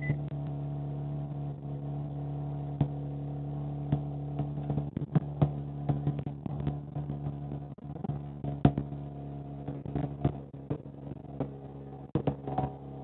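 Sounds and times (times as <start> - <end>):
muffled narrow drone: 0.0 - 13.0.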